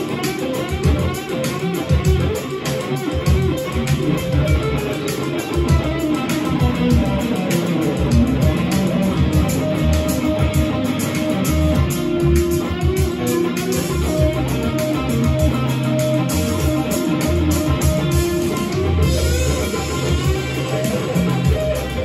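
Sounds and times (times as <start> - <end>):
electric guitar lead: 0.0 - 22.0
steady beat: 0.0 - 22.0
bass line: 0.8 - 1.2, 1.9 - 2.4, 3.2 - 5.0, 5.6 - 22.0.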